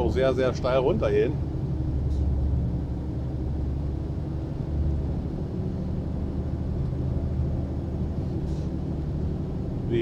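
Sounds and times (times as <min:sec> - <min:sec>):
low truck engine drone: 0:00.0 - 0:10.0
road rumble: 0:00.0 - 0:10.0.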